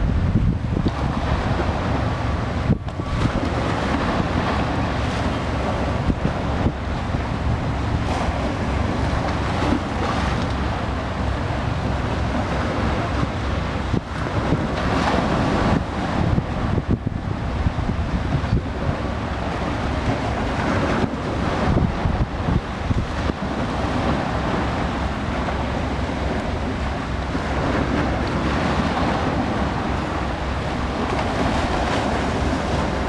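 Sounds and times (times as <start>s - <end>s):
choppy water washing: 0.0s - 33.0s
wind buffeting microphone: 0.0s - 33.0s.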